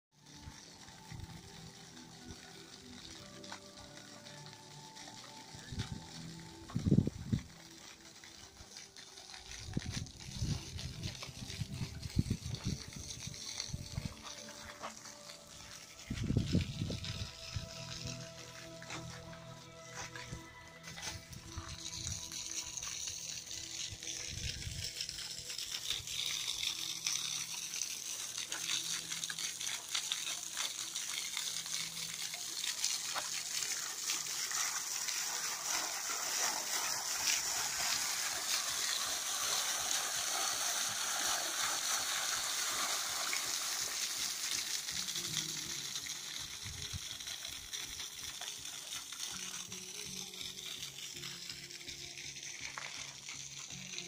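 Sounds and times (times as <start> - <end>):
fountain water splashing: 0.2 - 54.0.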